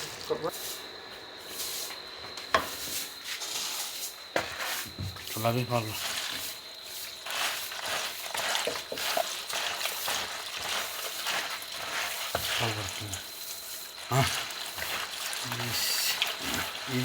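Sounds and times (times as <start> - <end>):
food sizzling in a frying pan: 1.5 - 17.0
stirring clicks and scrapes: 3.4 - 17.0.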